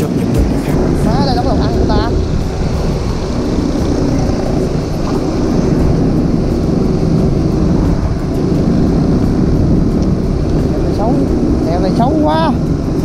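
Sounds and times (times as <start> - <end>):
motorcycle engine drone: 0.0 - 13.0
wind noise on microphone: 0.0 - 13.0.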